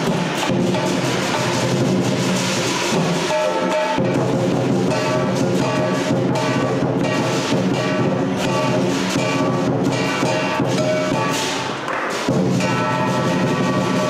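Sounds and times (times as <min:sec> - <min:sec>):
ringing gong: 0:00.0 - 0:11.7, 0:12.3 - 0:14.0
clashing cymbals: 0:00.0 - 0:14.0
drum struck continuously: 0:00.0 - 0:14.0.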